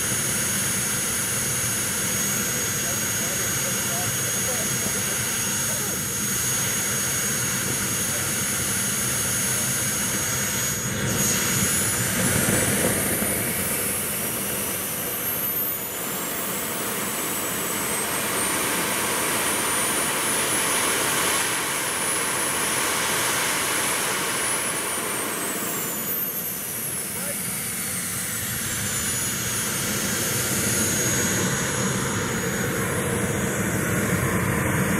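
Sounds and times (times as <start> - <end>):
jet turbine whining: 0.0 - 34.9.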